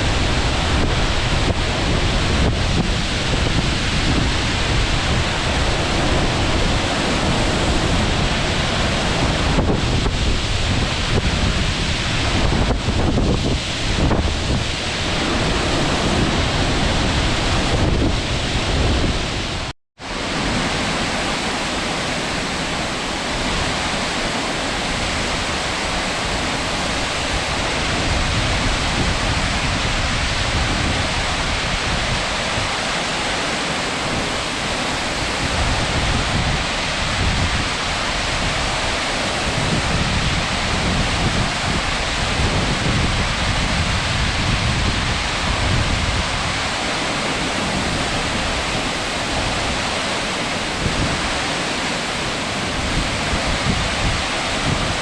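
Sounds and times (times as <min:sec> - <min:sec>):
low rumble of waterfall: 0:00.0 - 0:55.0
waterfall rushing: 0:00.0 - 0:55.0.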